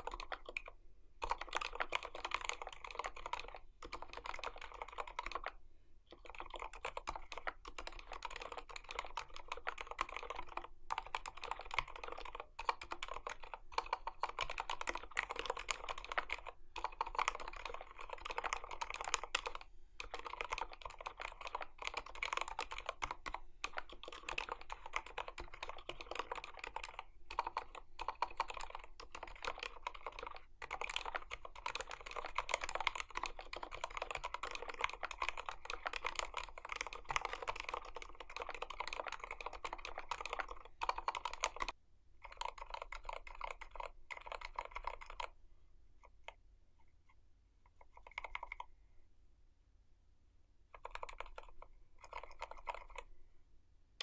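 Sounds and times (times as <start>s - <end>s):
fast typing on keyboard: 0.0s - 45.4s, 47.8s - 48.7s, 50.7s - 53.1s.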